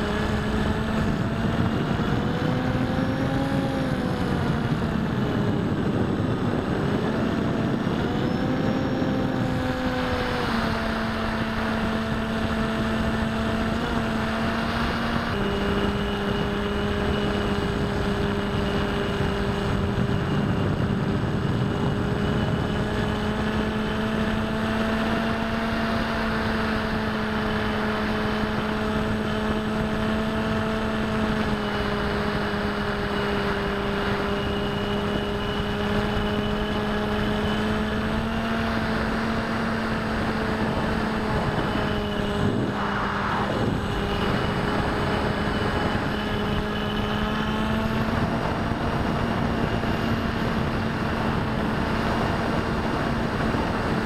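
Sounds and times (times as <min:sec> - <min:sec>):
wind rush: 0:00.0 - 0:24.5, 0:25.2 - 0:54.0
electric motor hum: 0:00.0 - 0:54.0.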